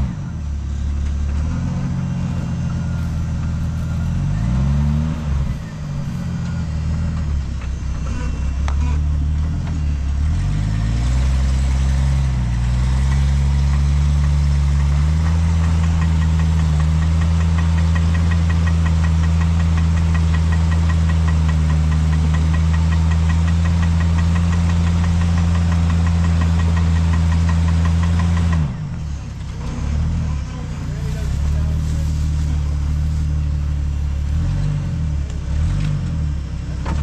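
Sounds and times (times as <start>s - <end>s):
utility vehicle engine ticking: 0.0s - 37.0s.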